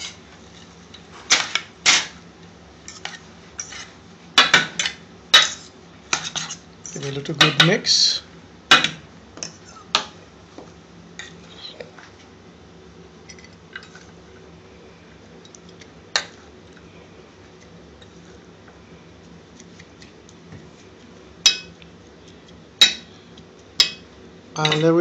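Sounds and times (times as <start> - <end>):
low kitchen hum: 0.0 - 25.0.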